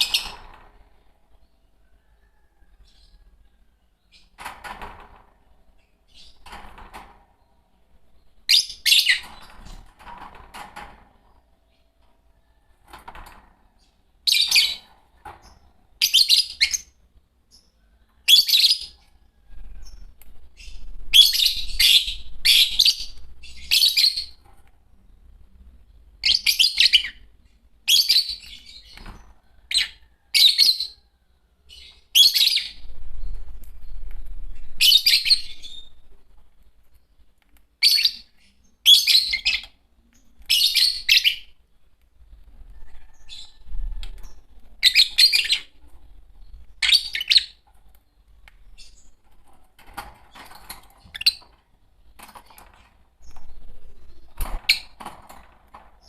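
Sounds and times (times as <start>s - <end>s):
lovebirds chirping: 0.0s - 4.5s, 5.5s - 10.0s, 11.2s - 12.7s, 13.7s - 56.0s.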